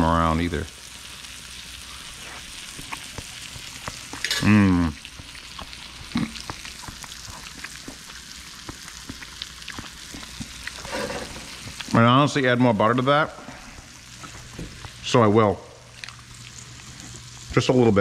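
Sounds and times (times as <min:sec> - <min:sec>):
chicken sizzling in a frying pan: 0:00.0 - 0:18.0.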